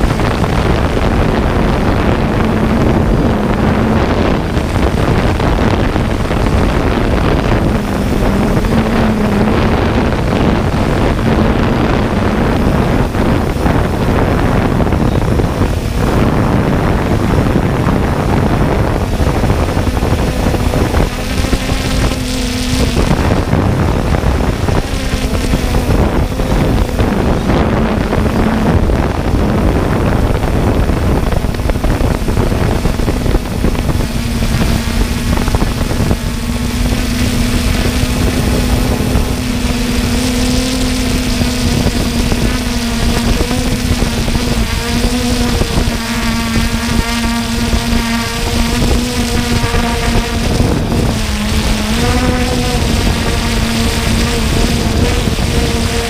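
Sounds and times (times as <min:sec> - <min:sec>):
drone propellers humming: 0:00.0 - 0:56.0
wind noise on microphone: 0:00.0 - 0:56.0.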